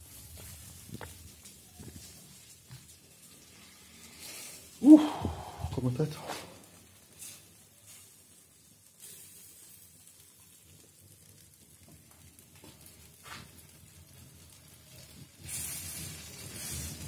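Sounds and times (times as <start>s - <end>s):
meat sizzling: 0.0s - 17.0s
sharp crackle: 0.0s - 17.0s.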